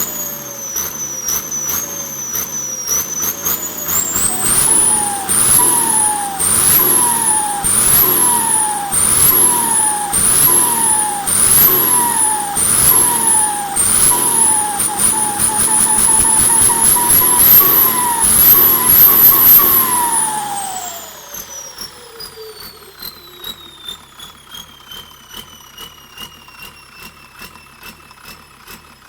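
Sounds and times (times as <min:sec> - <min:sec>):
engine revving in blips: 0:00.0 - 0:29.0
turbocharger whistling: 0:00.0 - 0:29.0.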